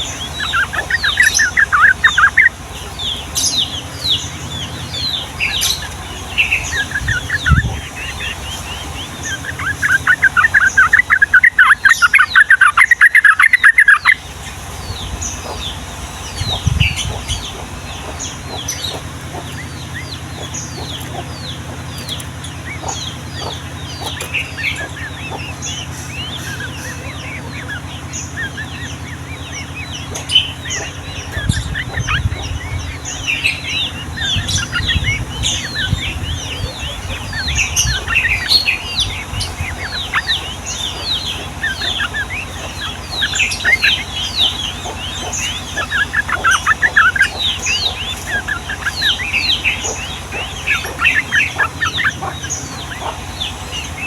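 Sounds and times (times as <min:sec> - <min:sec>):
bulbuls chattering chirps: 0:00.0 - 0:54.0
rapid rolling bird trill: 0:00.0 - 0:54.0.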